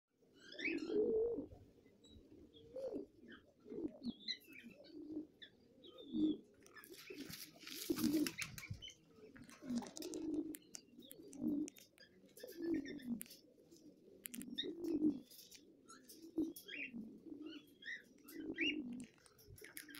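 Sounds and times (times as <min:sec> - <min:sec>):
pigeons cooing: 0:00.2 - 0:19.9.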